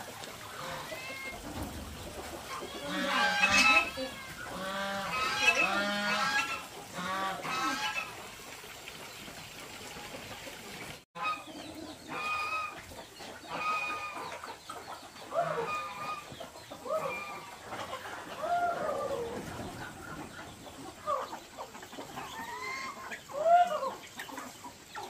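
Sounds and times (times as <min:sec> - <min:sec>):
chickens clucking and calling: 0:00.0 - 0:25.0.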